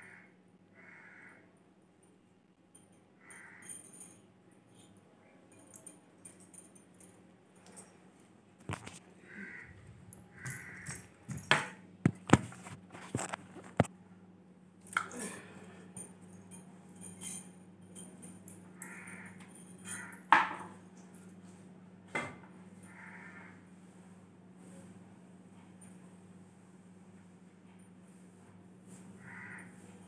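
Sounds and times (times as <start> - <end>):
steady low hum: 1.8 - 30.0.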